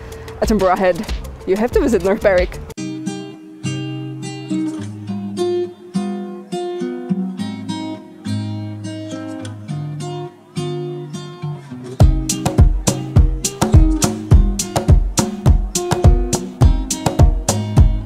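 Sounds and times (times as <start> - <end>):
acoustic guitar strumming: 2.8 - 18.0.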